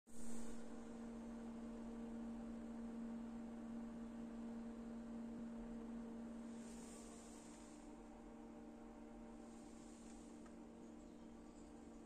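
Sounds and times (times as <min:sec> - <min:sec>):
electrical hum: 0:00.1 - 0:12.0.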